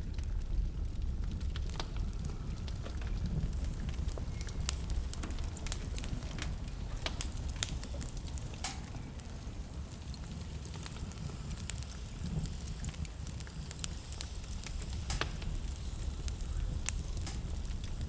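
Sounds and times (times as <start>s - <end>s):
fire flames rumbling: 0.0s - 18.0s
wood fire crackling and popping: 0.0s - 18.0s.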